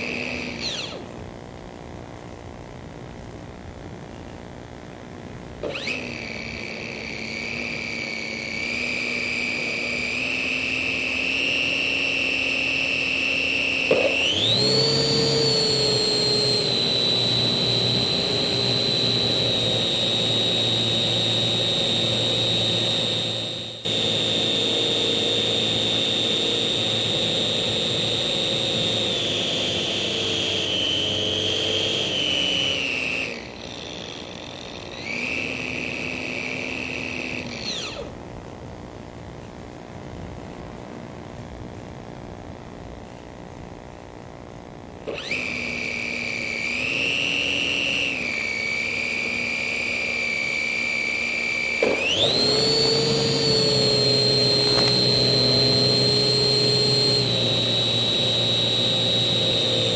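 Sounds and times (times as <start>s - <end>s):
model plane motor whining: 0.0s - 1.2s, 5.6s - 38.2s, 45.0s - 59.9s.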